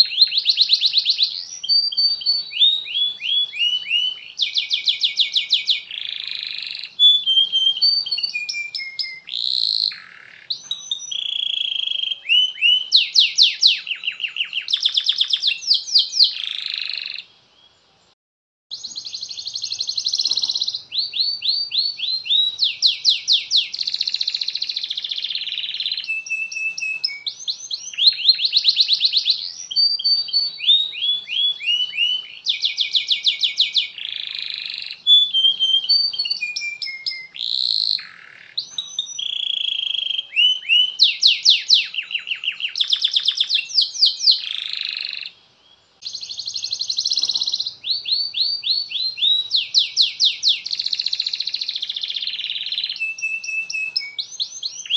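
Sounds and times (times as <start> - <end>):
canary singing: 0.0 - 17.8, 18.7 - 54.9.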